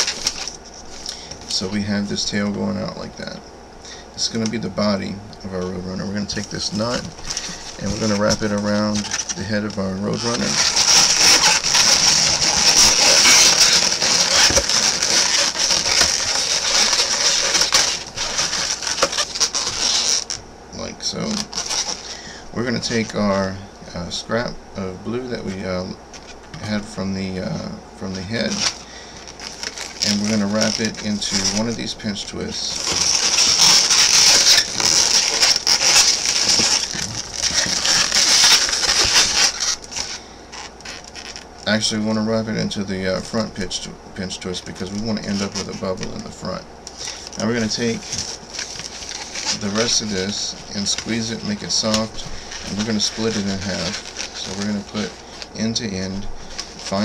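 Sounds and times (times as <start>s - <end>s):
balloons rubbing and squeaking: 0.0s - 3.3s, 5.8s - 41.6s, 44.6s - 57.0s.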